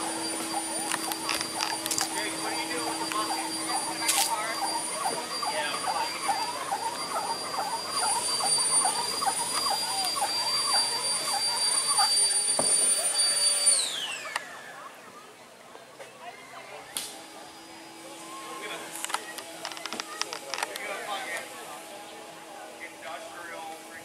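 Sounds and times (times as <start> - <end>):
small motor whining: 0.0 - 24.0.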